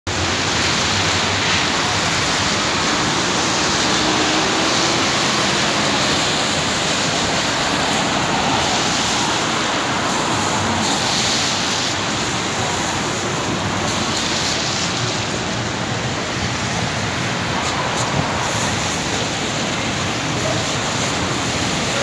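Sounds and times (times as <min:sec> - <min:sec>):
bus engine hum: 0:00.1 - 0:22.0
rain: 0:00.1 - 0:22.0
tyres swishing on wet road: 0:00.1 - 0:22.0.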